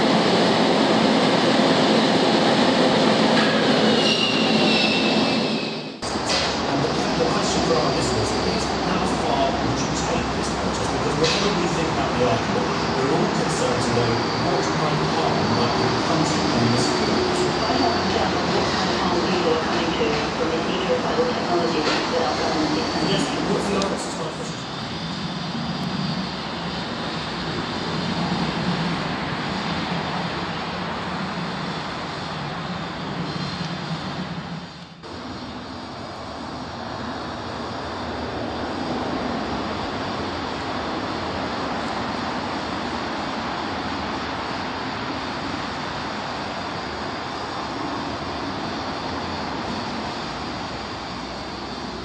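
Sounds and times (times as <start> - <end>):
diesel locomotive engine running: 5.9 - 52.0.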